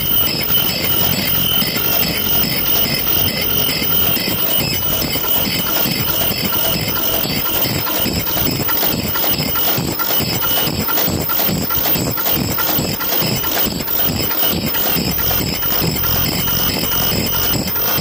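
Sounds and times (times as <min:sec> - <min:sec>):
mask making machine clattering: 0:00.0 - 0:18.0.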